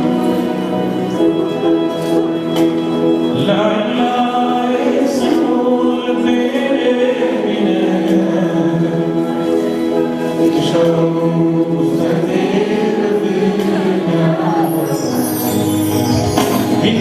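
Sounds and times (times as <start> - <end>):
choir singing gospel: 0.0 - 17.0.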